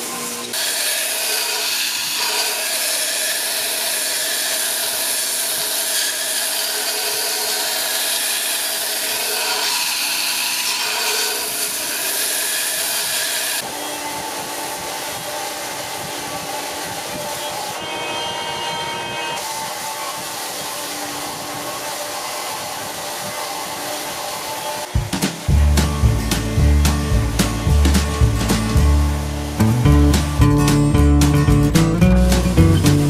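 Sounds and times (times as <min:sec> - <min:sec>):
belt grinder grinding steel: 0:00.0 - 0:33.0.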